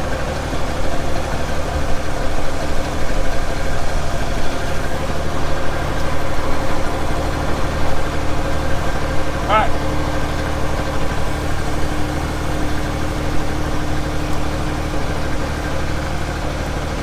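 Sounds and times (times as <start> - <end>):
loader engine idling: 0.0 - 17.0.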